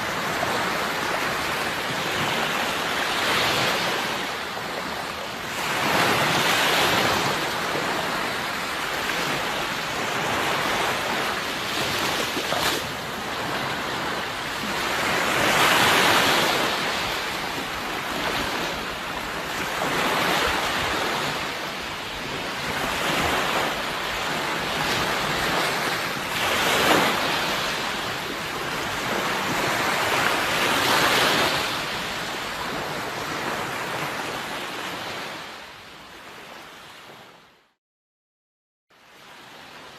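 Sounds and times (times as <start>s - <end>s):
sea waves breaking on shore: 0.0s - 37.6s.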